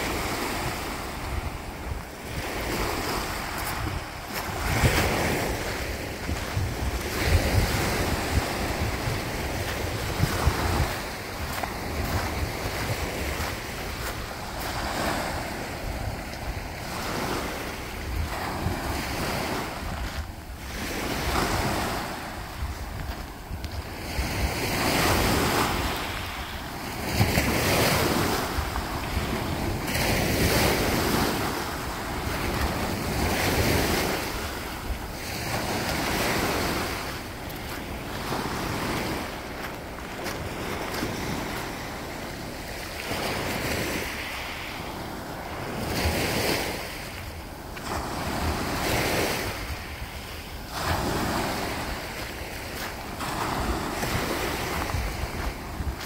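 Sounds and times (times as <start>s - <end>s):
waves washing over pebbles: 0.0s - 56.0s
wind buffeting microphone: 0.0s - 56.0s.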